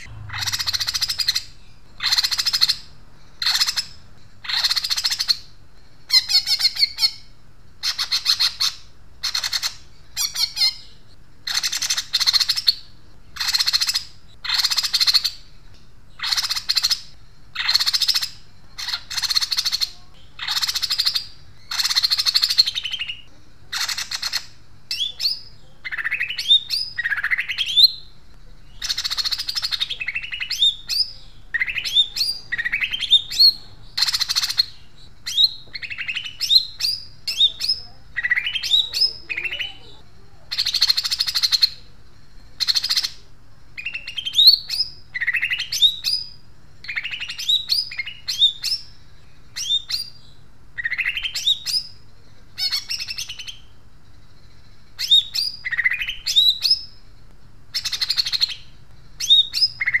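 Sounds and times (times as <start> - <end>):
harsh rasping bird chatter: 0.0 - 50.2, 50.8 - 57.1, 57.7 - 60.0
bird whistling song: 0.0 - 57.1, 57.7 - 60.0.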